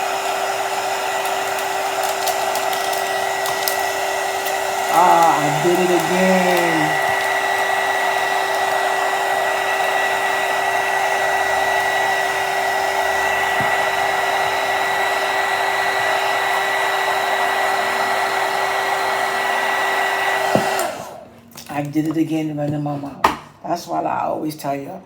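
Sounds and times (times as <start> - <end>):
hot-air blower whining: 0.0 - 21.4.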